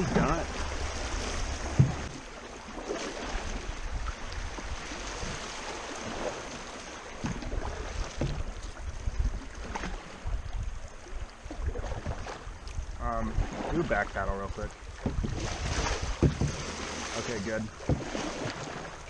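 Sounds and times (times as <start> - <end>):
river current rushing: 0.0 - 10.4, 11.0 - 19.0
canoe paddles splashing: 0.0 - 19.0
wind rumble on microphone: 3.2 - 6.6, 7.2 - 19.0.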